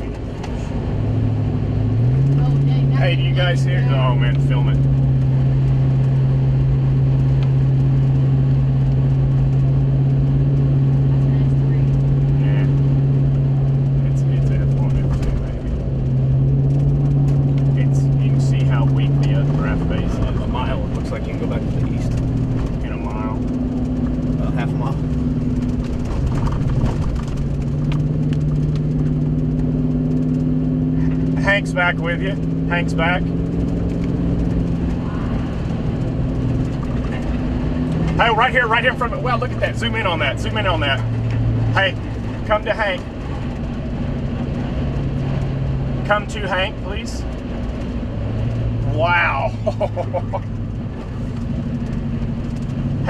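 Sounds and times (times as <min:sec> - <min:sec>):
vehicle running inside cabin: 0:00.0 - 0:53.0.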